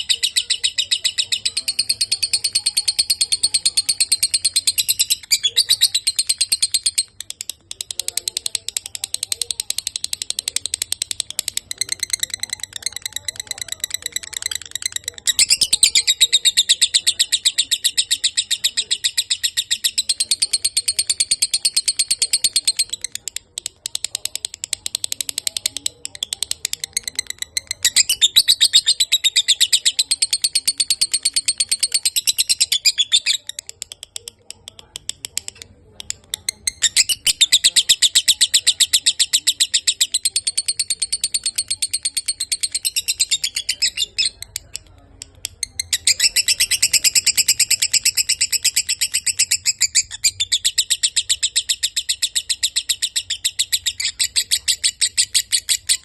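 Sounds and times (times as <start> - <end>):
lovebird chattering trill: 0.0 - 23.4, 24.3 - 34.2, 36.3 - 44.8, 45.6 - 56.0.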